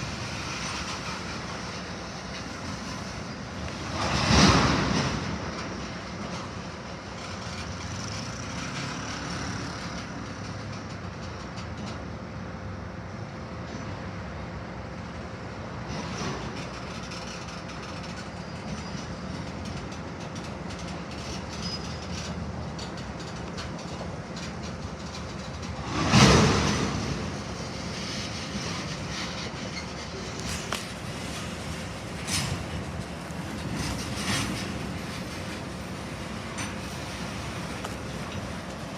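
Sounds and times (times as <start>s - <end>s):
train rumbling on track: 0.0s - 38.9s.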